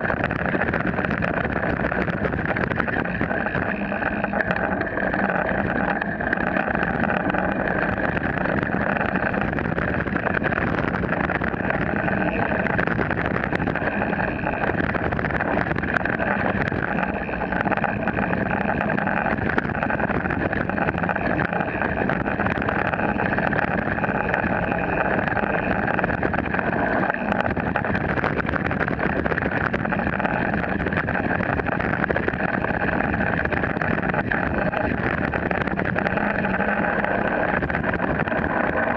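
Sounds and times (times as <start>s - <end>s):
bike tyre rumbling on dirt: 0.0s - 38.9s.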